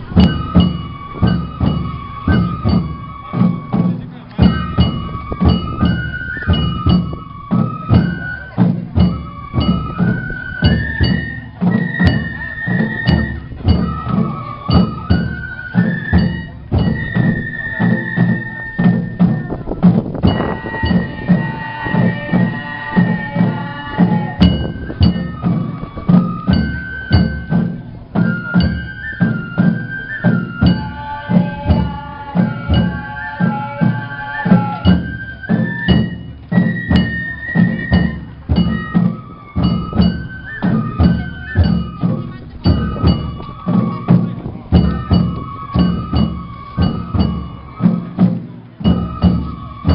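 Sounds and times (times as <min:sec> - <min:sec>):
bamboo flute melody: 0:00.0 - 0:49.9
taiko drum beats: 0:00.0 - 0:49.9.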